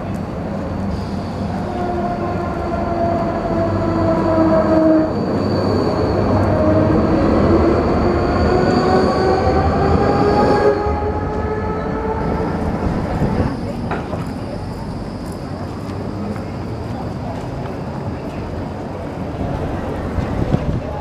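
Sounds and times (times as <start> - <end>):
tram wheels rumbling on track: 0.0 - 21.0.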